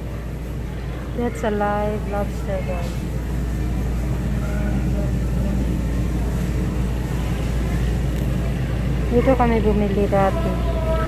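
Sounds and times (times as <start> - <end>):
faint distant voices: 0.0 - 11.0
noisy background: 0.0 - 11.0
steady low hum: 0.0 - 11.0.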